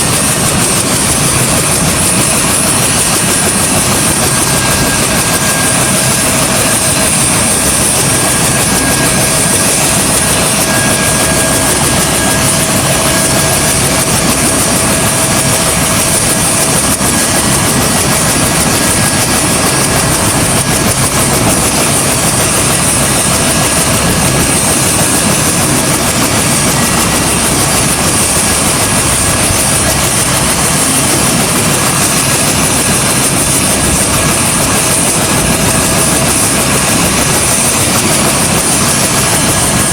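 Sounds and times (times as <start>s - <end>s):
helicopter rotor running: 0.0s - 39.9s
helicopter turbine whine: 0.0s - 39.9s.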